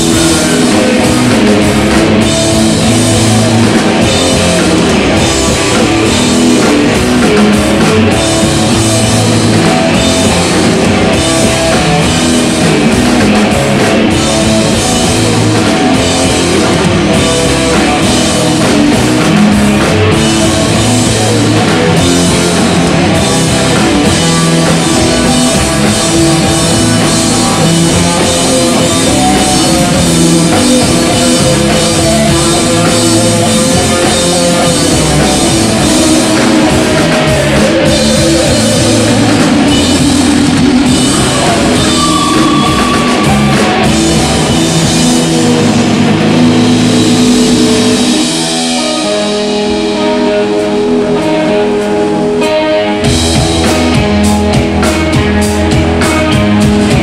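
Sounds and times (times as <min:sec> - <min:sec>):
distorted electric guitars: 0:00.0 - 0:57.0.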